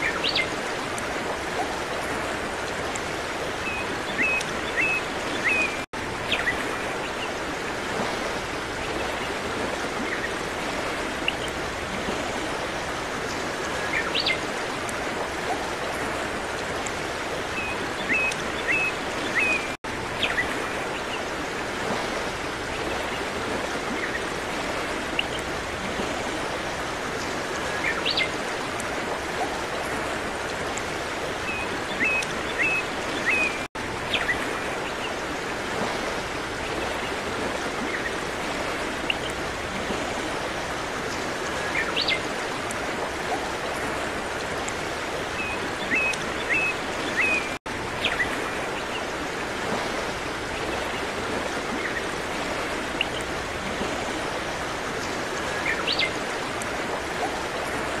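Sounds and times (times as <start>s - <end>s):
stream running water: 0.0s - 58.0s.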